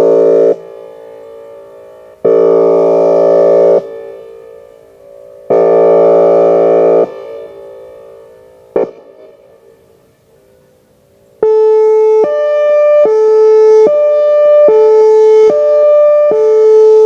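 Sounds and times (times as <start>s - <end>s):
warning siren horn blasts: 0.0s - 10.2s, 11.4s - 17.0s.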